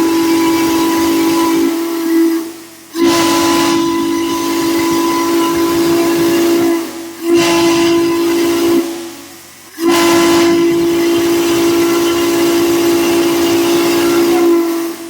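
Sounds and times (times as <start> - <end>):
steam hissing: 0.0 - 15.0
steam whistle blasts: 0.0 - 15.0.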